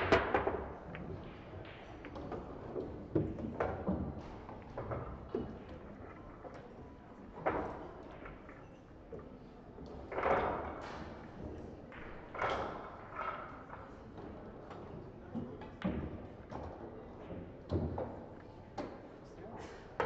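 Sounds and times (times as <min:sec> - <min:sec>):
hum of a large hall: 0:00.0 - 0:20.0.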